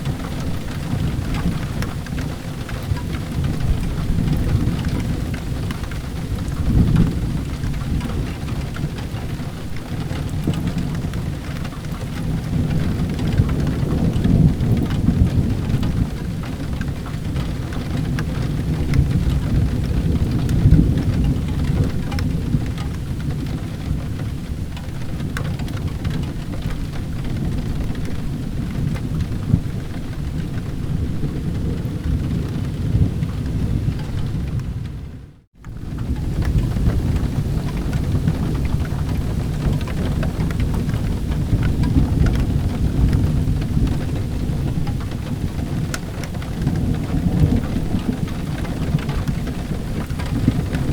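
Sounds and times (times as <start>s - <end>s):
heavy rain: 0.0s - 50.9s
thunder rumbling: 0.0s - 50.9s.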